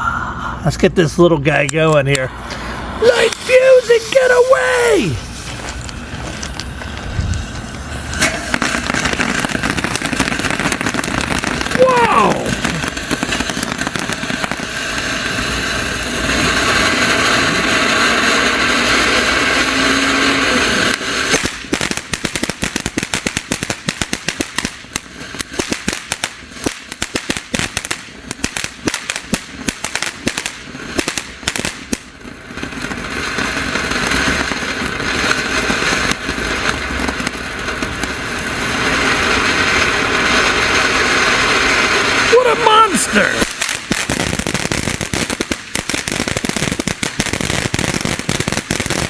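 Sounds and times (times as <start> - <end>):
firework fountain hissing: 0.0 - 49.0
firework crackling pops: 1.5 - 49.0.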